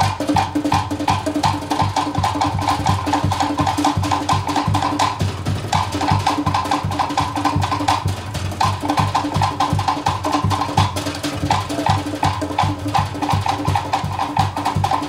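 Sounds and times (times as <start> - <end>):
wooden slit drums: 0.0 - 15.0.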